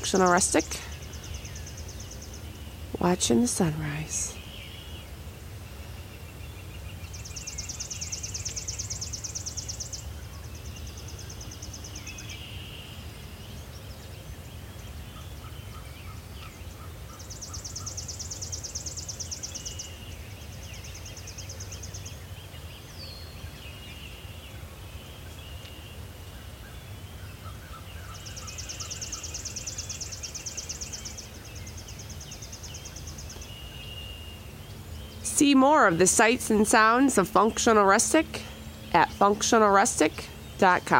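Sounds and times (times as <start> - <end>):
faint bird chirps: 0.0 - 40.9
low outdoor rumble: 0.0 - 40.9
songbird trilling: 0.0 - 40.9.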